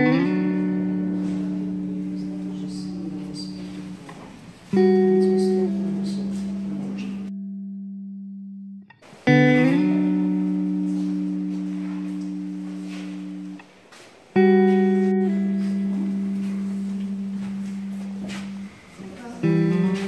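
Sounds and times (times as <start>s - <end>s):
plucked guitar chords: 0.0s - 20.0s.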